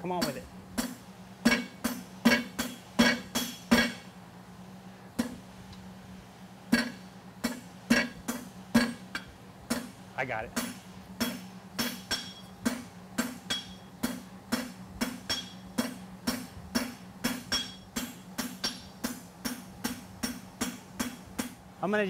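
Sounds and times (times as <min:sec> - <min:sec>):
hammer striking hot steel on anvil: 0:00.1 - 0:04.1, 0:05.2 - 0:05.4, 0:06.7 - 0:21.6.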